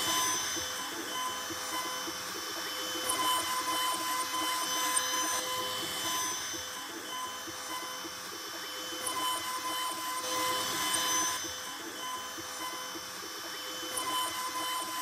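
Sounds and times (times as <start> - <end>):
cnc router spindle whining: 0.0 - 15.0.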